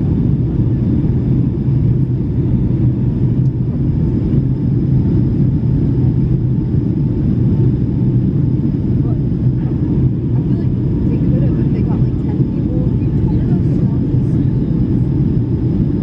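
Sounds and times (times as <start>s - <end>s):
airliner cabin engine rumble: 0.0s - 16.0s
steady low hum: 0.0s - 16.0s.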